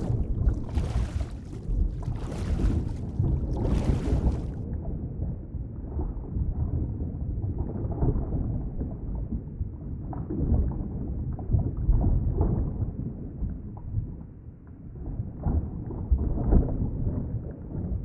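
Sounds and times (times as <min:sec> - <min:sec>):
muffled underwater water rumble: 0:00.0 - 0:18.0.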